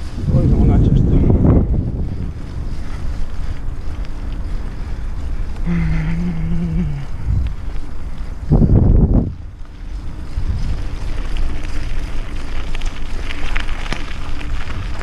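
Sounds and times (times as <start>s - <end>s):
bike tyres rolling on dirt: 0.0s - 15.0s
low hum: 0.0s - 15.0s
wind buffeting microphone: 0.0s - 15.0s.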